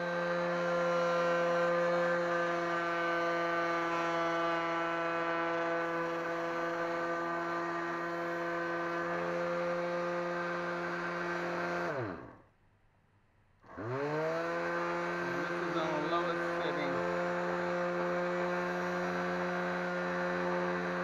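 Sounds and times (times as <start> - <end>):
rotary tool motor whining: 0.0 - 12.4, 13.7 - 21.0.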